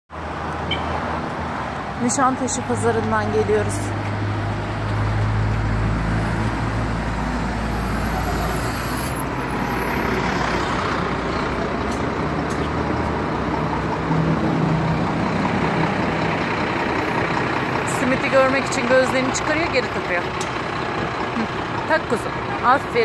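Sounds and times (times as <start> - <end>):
passing vehicles: 0.1 - 23.0
low engine rumble: 1.7 - 23.0.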